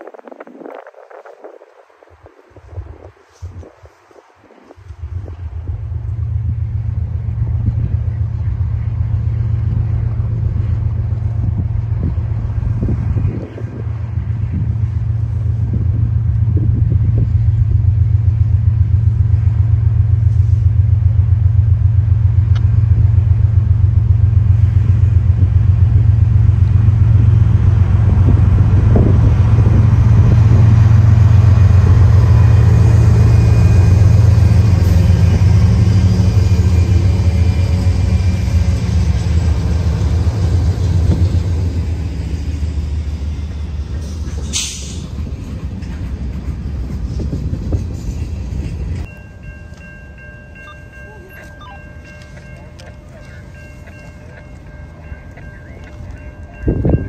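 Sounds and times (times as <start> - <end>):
diesel locomotive engines throbbing: 4.8 - 57.0
freight cars rumbling over rails: 4.9 - 57.0.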